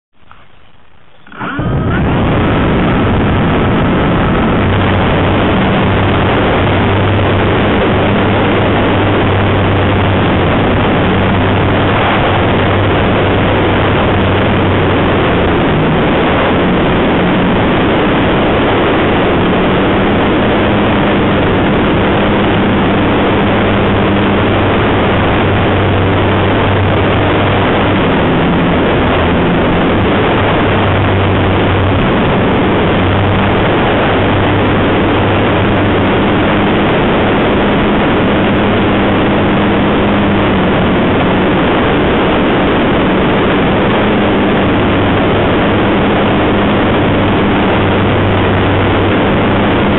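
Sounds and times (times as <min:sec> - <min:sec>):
model aeroplane motor droning: 0:00.2 - 0:49.9.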